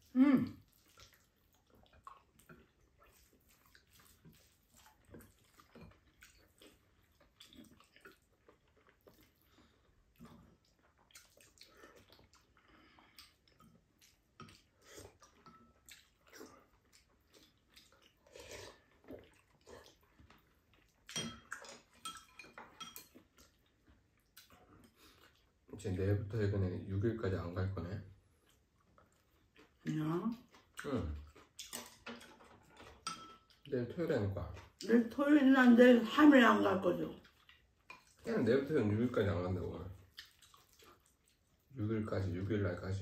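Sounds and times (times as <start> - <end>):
soft chewing: 0.0 - 26.6, 27.2 - 43.0.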